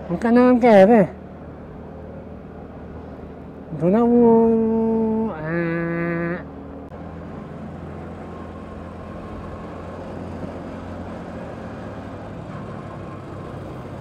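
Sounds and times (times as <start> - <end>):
road noise: 0.0 - 14.0
scooter engine hum: 0.0 - 14.0.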